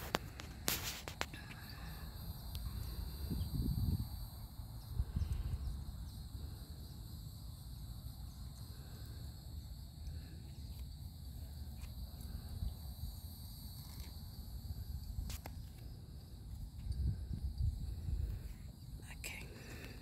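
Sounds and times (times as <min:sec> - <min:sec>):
insects singing: 0:00.0 - 0:20.0.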